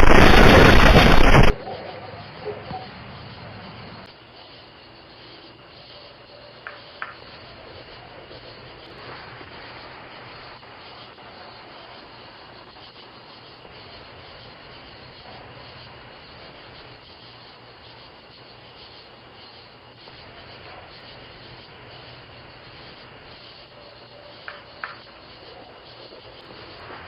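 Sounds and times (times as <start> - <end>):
steady hissing noise: 0.0 - 27.0.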